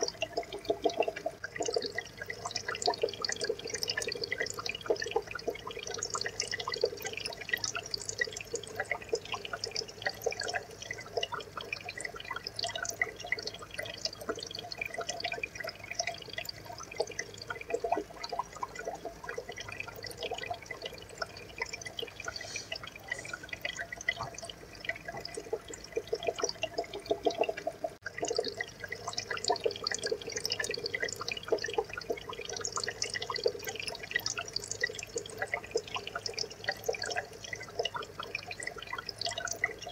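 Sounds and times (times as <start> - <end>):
water trickling and bubbling: 0.0 - 39.9.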